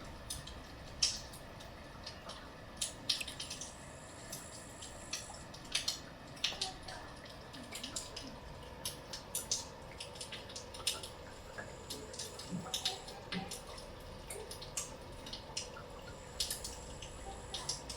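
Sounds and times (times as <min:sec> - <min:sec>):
faint steady hum: 0:00.0 - 0:17.9
water spattering and dripping: 0:00.0 - 0:17.9.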